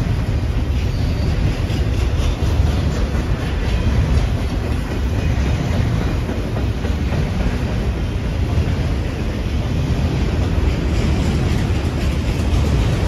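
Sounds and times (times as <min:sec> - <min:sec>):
freight train rumbling past: 0:00.0 - 0:13.0
wheels clattering on rails: 0:00.0 - 0:13.0.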